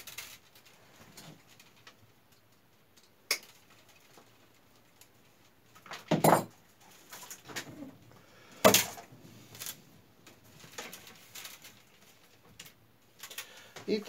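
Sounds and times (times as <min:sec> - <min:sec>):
wicker rods rustling and knocking: 0:00.0 - 0:08.0, 0:08.6 - 0:14.0.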